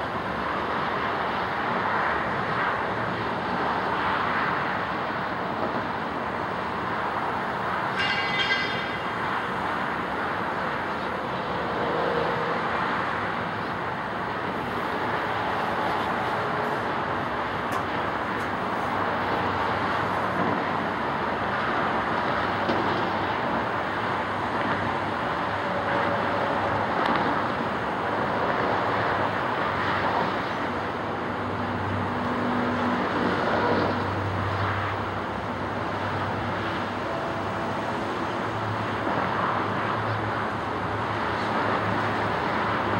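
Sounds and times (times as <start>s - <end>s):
road traffic noise: 0.0s - 42.9s.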